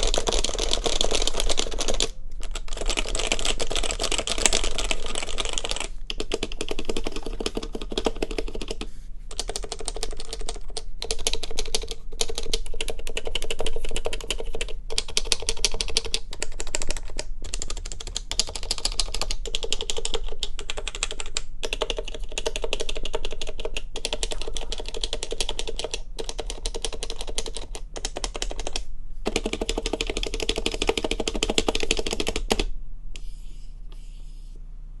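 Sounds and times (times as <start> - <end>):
fast typing on keyboard: 0.0 - 32.7
faint low hum: 0.0 - 35.0.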